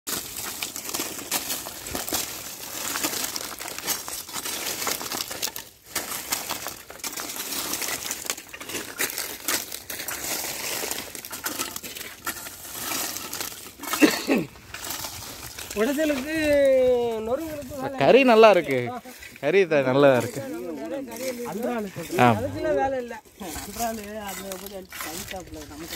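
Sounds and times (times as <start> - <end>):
charcoal cracking and crunching: 0.1 - 25.9.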